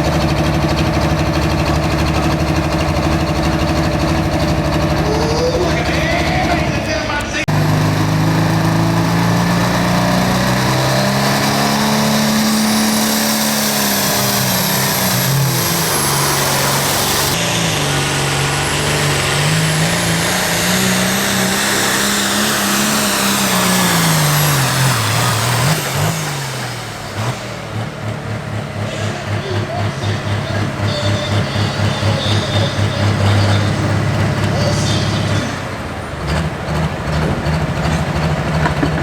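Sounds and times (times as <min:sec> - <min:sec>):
tractor engine under load: 0:00.0 - 0:39.0.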